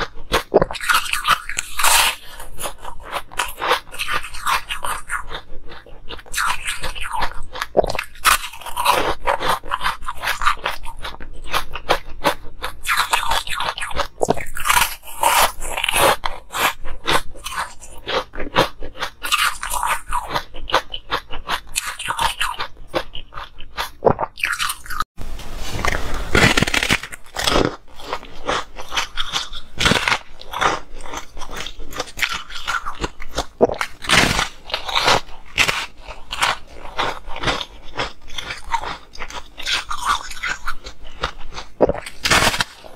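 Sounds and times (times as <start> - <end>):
ice crunching being chewed: 0.0 - 25.1, 25.7 - 42.9.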